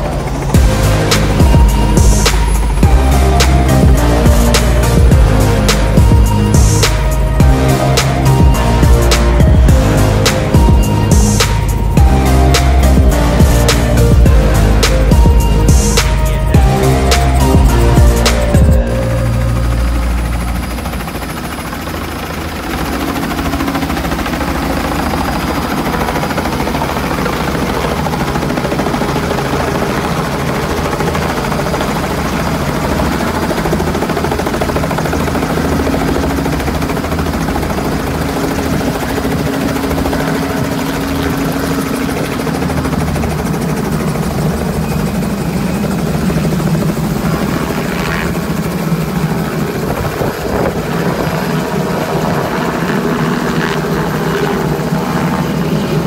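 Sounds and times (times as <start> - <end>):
helicopter rotor chopping: 0.0 - 56.0.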